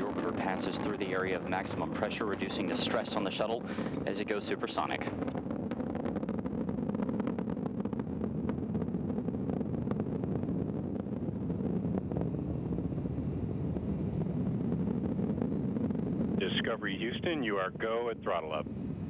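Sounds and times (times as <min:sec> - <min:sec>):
rocket engines deep rumble: 0:00.0 - 0:19.0.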